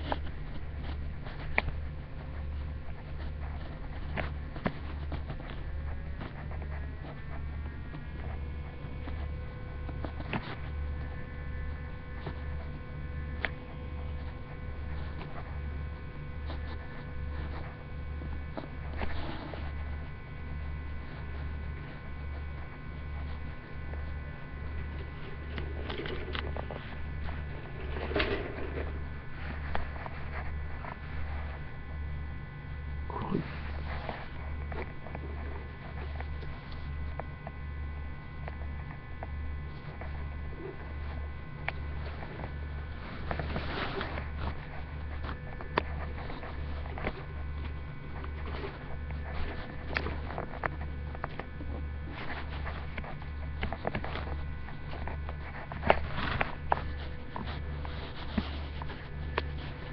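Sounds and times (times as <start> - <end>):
pulsing low hum: 0.0 - 59.9.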